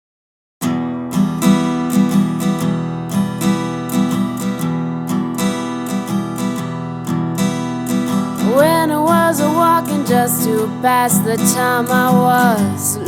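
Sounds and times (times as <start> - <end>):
acoustic guitar strumming: 0.6 - 13.0.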